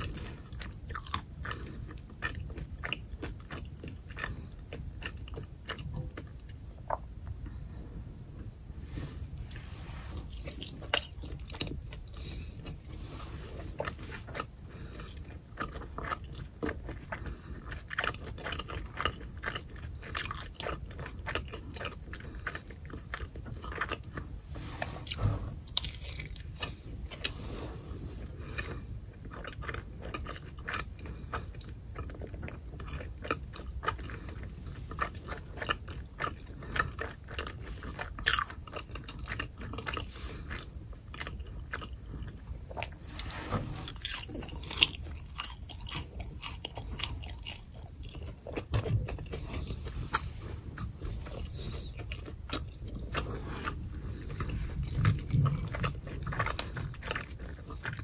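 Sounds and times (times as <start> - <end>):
crispy food chewing: 0.0 - 58.0.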